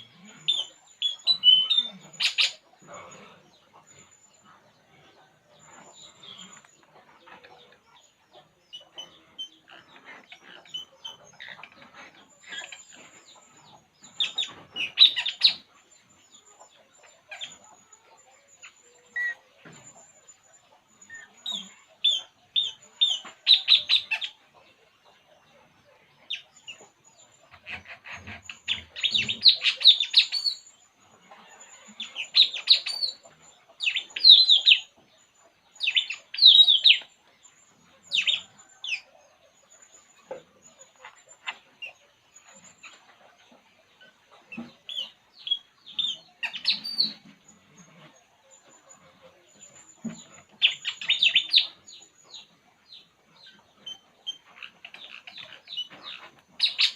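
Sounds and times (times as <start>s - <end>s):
scratchy bird chatter: 0.0s - 24.4s, 25.9s - 39.1s, 39.7s - 56.9s.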